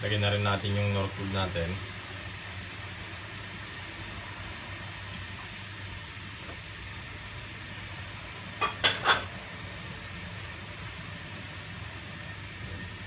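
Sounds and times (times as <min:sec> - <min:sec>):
gas burner hissing: 0:00.0 - 0:13.0.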